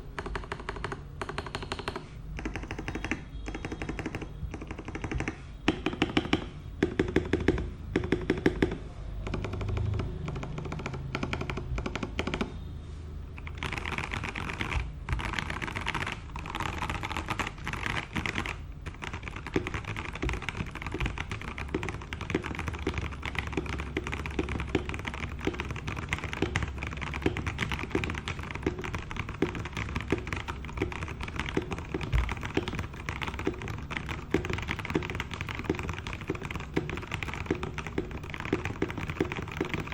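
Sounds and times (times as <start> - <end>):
typing on mechanical keyboard: 0.0 - 12.6, 13.3 - 39.9.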